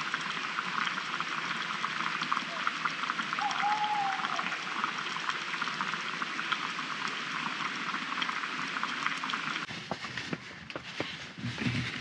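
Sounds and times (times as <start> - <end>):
rainforest crackling patter: 0.0 - 12.0.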